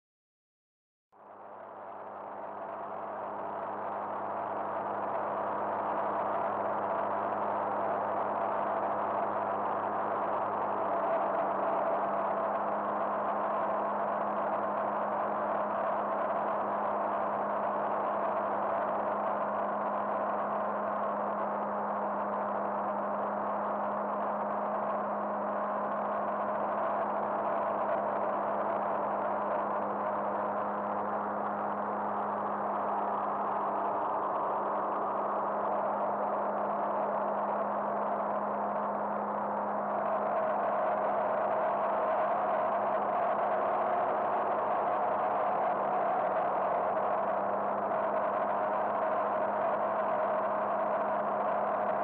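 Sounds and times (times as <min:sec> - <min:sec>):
propeller engine drone in cabin: 0:01.2 - 0:52.0.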